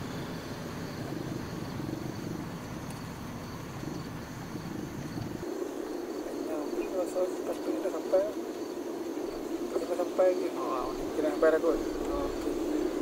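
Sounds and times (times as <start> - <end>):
car engine and tyres rumbling: 0.0 - 7.1, 8.1 - 13.0
insects chirring: 0.0 - 13.0.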